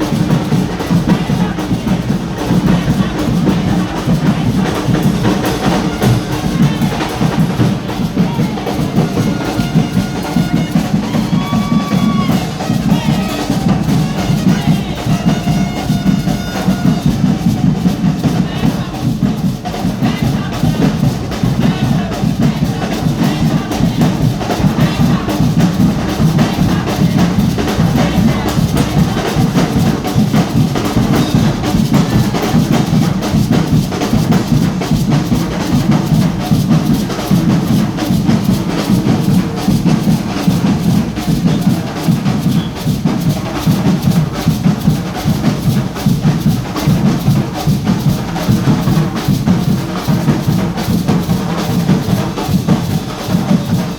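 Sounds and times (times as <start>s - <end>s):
percussion band drumming: 0.0s - 53.9s.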